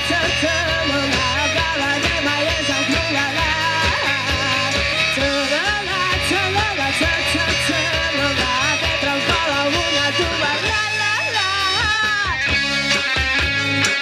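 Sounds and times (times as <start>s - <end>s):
person singing: 0.0s - 12.5s
distorted electric guitars: 0.0s - 14.0s
steady drum beat: 0.0s - 14.0s.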